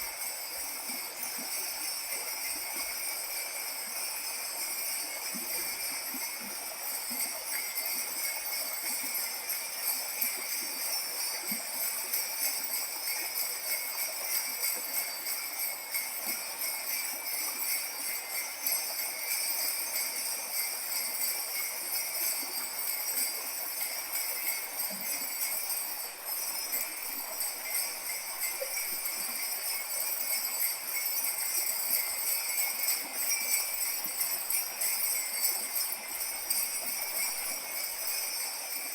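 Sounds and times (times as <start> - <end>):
bronze bells jingling: 0.0 - 38.9.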